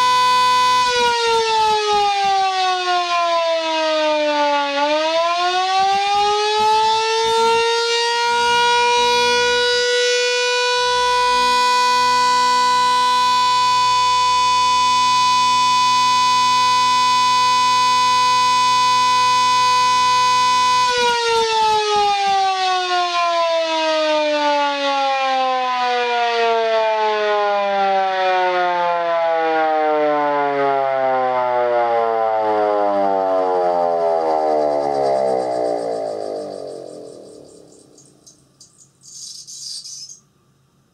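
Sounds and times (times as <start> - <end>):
electric rotary siren wailing: 0.0 - 38.5.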